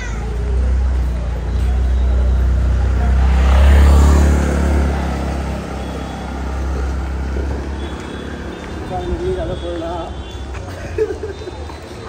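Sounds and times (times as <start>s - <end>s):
traffic noise: 0.0s - 12.0s
vehicle engine passing: 0.2s - 10.6s.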